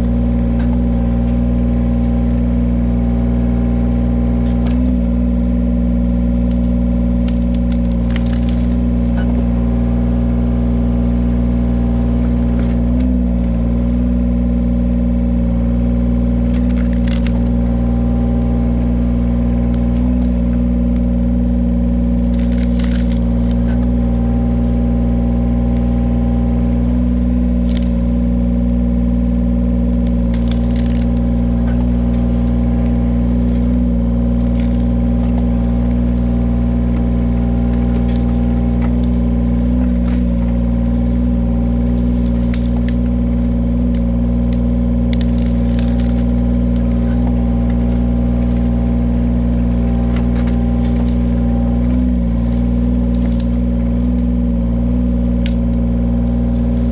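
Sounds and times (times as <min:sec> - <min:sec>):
wood splitter engine running: 0:00.0 - 0:56.9
wood splitting cracks: 0:00.0 - 0:56.9.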